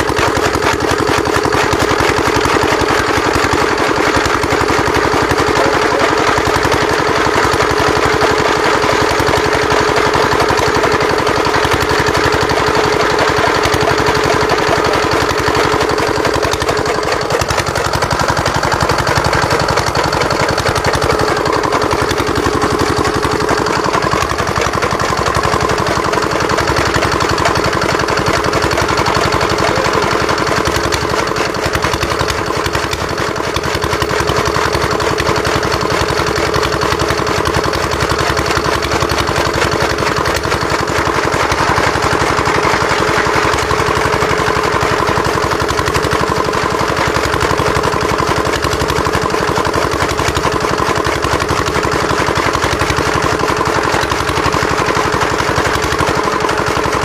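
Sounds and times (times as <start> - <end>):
chaff cutter chopping fodder: 0.0 - 57.0
small diesel engine running: 0.0 - 57.0.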